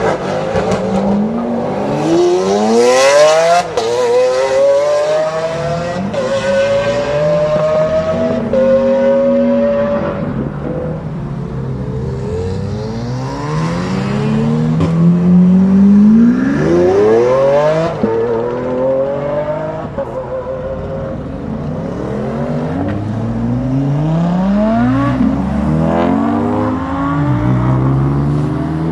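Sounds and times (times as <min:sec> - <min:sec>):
cars accelerating hard: 0:00.0 - 0:28.9.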